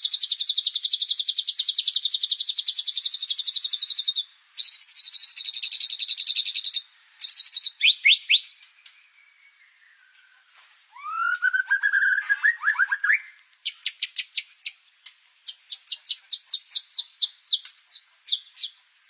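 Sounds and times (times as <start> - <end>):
bird singing whistles and chirps: 0.0 - 18.8.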